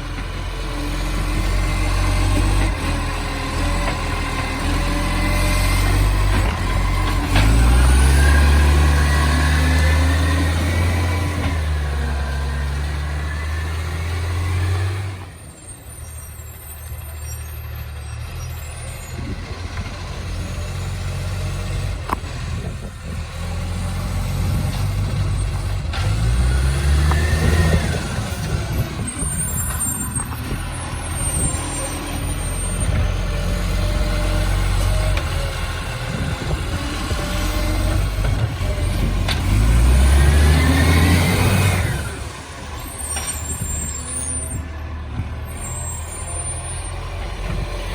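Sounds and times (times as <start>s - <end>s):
diesel truck engine roaring: 0.0s - 47.9s.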